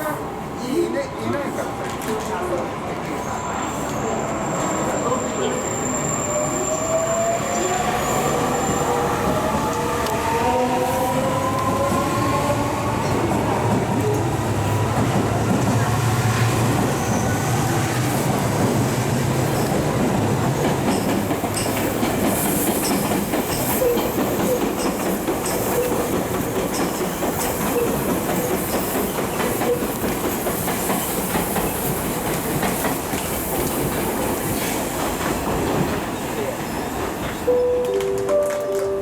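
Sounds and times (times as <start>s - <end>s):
electric train rumbling: 0.0s - 39.0s.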